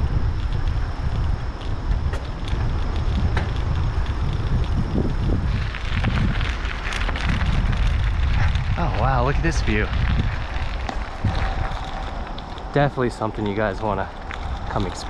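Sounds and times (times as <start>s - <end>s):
bicycle on wooden boards: 0.0s - 15.0s
tyres crunching on gravel: 0.0s - 15.0s
wind rumbling on microphone: 0.0s - 15.0s.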